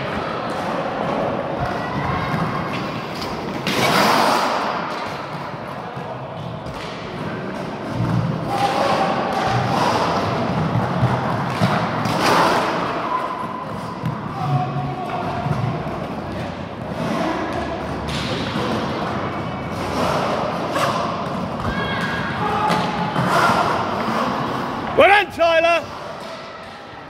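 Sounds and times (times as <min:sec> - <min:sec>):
skate wheels on floor: 0:00.0 - 0:27.0.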